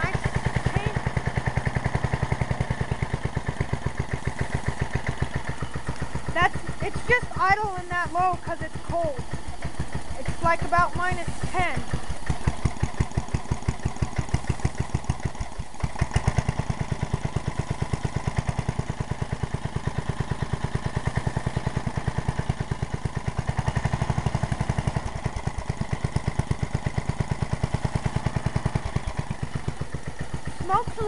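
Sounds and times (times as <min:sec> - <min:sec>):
small engine idling: 0:00.0 - 0:31.0.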